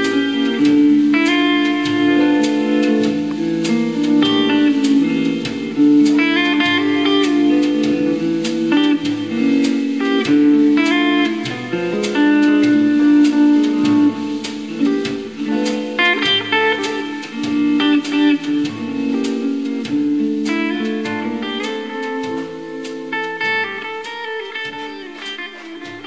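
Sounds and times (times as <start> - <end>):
slide guitar music: 0.0 - 26.0.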